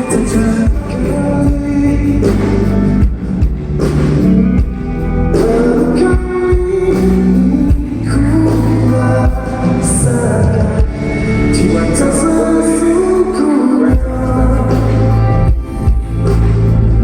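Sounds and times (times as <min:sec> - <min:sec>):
person singing: 0:00.0 - 0:17.0
rock band playing: 0:00.0 - 0:17.0.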